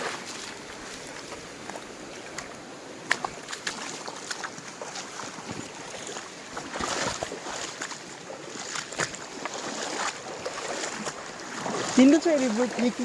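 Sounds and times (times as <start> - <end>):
shallow river water flowing: 0.0 - 13.0
splashes of wading steps: 0.0 - 13.0.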